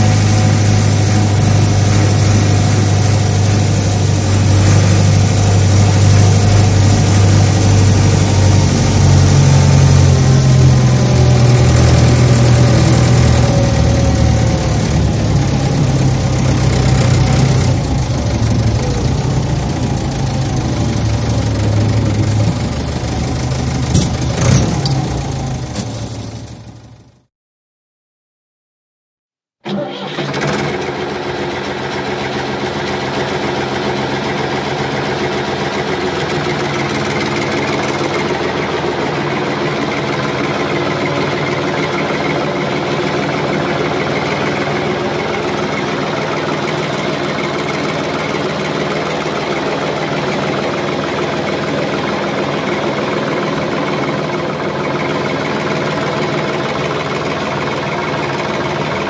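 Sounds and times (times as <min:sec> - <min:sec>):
engine running steadily: 0:00.0 - 0:27.3, 0:29.7 - 0:59.0.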